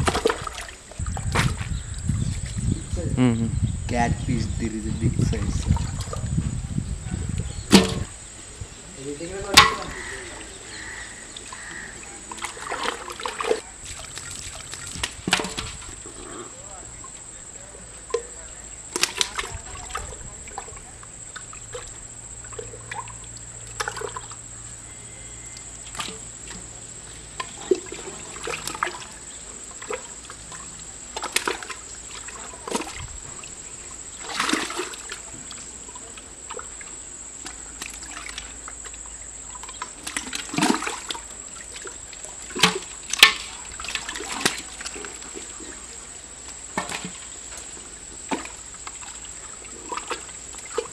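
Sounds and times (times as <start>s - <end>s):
small water splashes: 0.0s - 2.6s, 5.2s - 6.4s, 7.4s - 24.7s, 25.5s - 50.9s
mud squelching: 0.0s - 2.7s, 7.0s - 50.9s.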